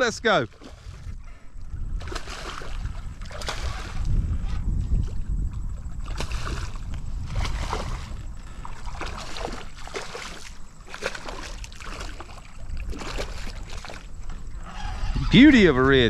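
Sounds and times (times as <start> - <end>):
water splashing and sloshing: 0.0 - 16.0
wind rumbling on microphone: 0.0 - 16.0.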